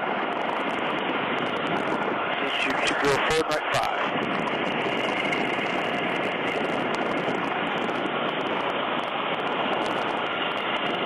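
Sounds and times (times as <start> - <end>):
helicopter engines and rotors: 0.0 - 11.0.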